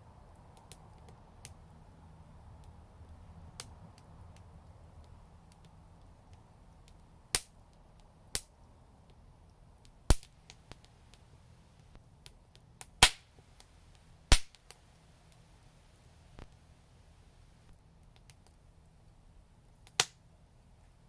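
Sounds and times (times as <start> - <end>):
wood fire crackling and popping: 0.3 - 9.2, 9.8 - 15.5, 17.3 - 20.3.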